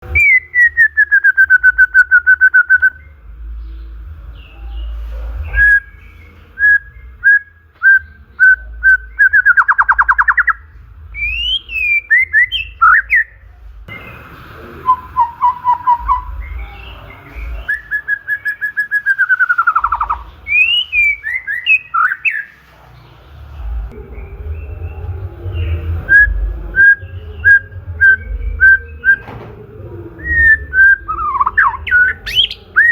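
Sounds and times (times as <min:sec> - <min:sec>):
songbird singing whistled notes: 0:00.0 - 0:22.6, 0:25.6 - 0:29.5, 0:30.2 - 0:32.9.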